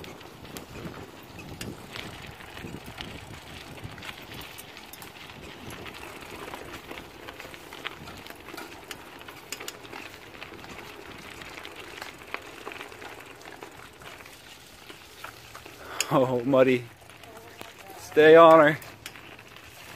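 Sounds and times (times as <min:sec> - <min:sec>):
bicycle tyres on dirt: 0:00.0 - 0:19.9
bike clicks and rattles: 0:00.0 - 0:19.9.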